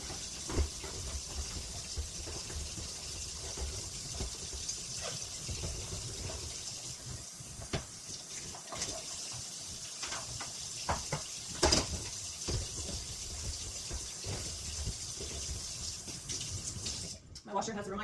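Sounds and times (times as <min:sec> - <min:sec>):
tap water running: 0:00.0 - 0:17.4.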